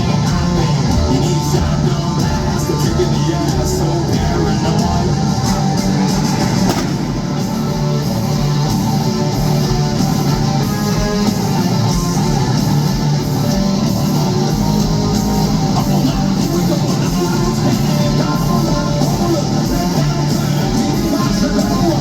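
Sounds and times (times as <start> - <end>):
drum kit: 0.0 - 22.0
electric guitars: 0.0 - 22.0.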